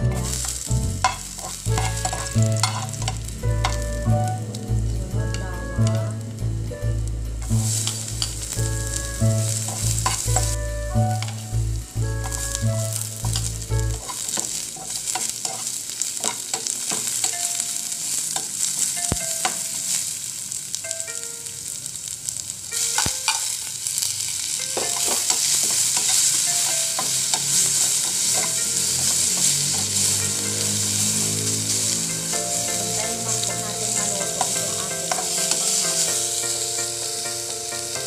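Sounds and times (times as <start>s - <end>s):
vegetables sizzling in hot oil: 0.0s - 38.0s
metal ladle scraping a pan: 0.1s - 4.4s, 7.4s - 20.2s, 22.7s - 23.8s, 24.4s - 37.4s.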